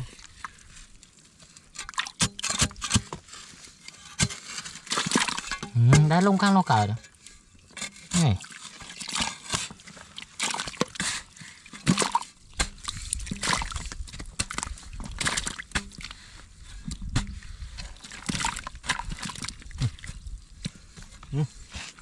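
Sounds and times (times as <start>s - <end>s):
muddy water sloshing: 0.0s - 22.0s
blade scraping wet mud: 1.8s - 22.0s.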